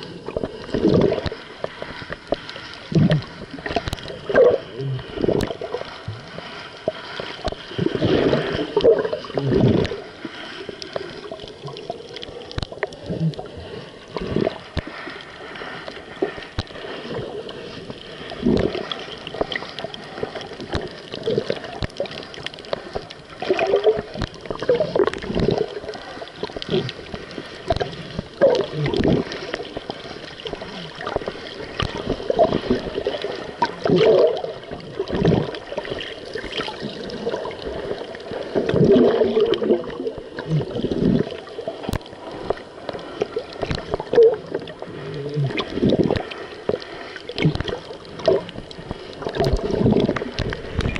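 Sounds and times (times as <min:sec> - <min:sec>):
muffled underwater gurgling: 0:00.0 - 0:50.9.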